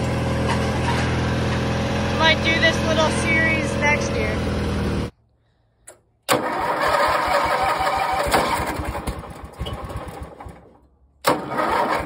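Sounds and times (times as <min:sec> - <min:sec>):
small tractor engine running: 0:00.0 - 0:05.1, 0:06.3 - 0:12.0.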